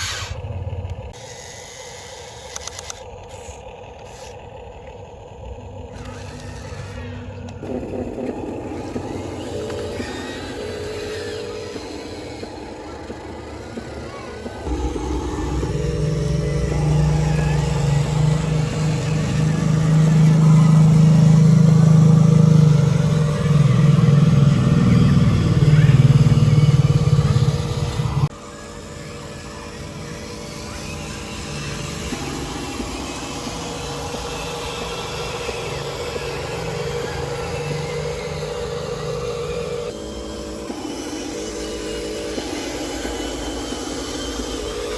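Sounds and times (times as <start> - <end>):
model vehicle motor: 0.0 - 44.9.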